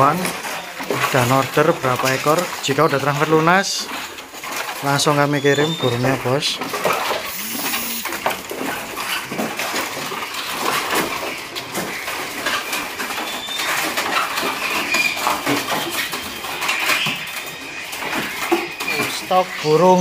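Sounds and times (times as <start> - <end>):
songbirds chattering and chirping: 0.0 - 20.0.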